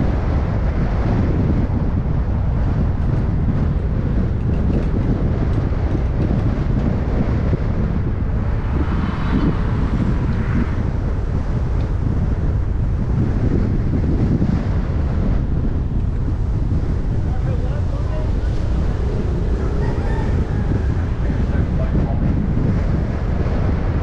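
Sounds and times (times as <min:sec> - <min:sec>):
wind noise on microphone: 0:00.0 - 0:24.0
car driving slowly: 0:02.2 - 0:24.0.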